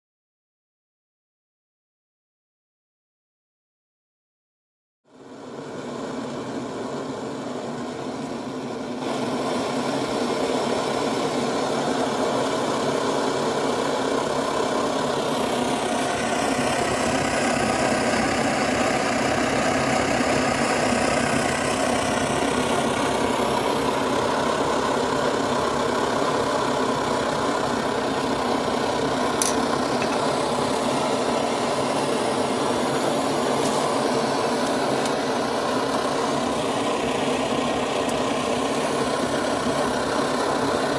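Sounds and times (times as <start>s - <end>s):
pressure stove burning with rushing roar: 5.1s - 40.9s.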